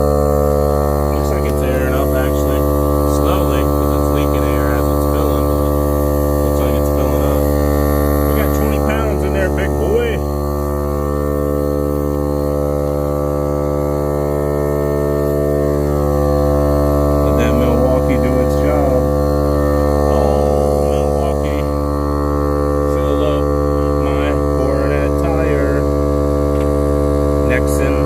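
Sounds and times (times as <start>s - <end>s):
air compressor running: 0.0s - 28.0s.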